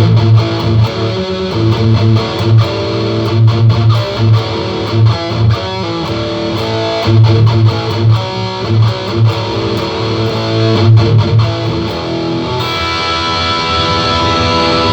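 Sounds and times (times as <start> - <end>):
electric guitar with effects: 0.0 - 14.9.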